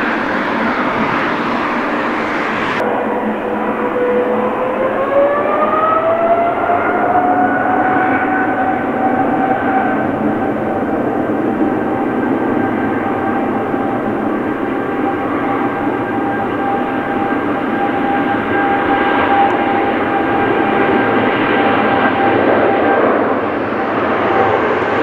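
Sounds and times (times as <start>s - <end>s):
jet engines whining and roaring: 0.0s - 25.0s.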